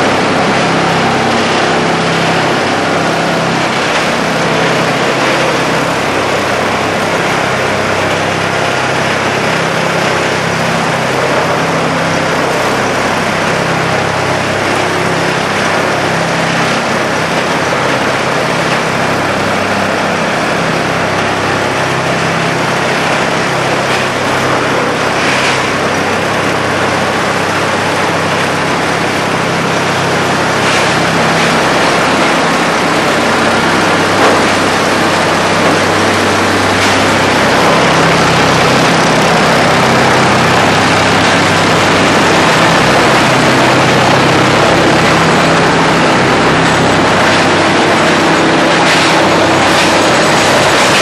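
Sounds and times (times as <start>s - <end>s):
grinder engine running: 0.0s - 51.0s
heavy machine noise: 0.0s - 51.0s.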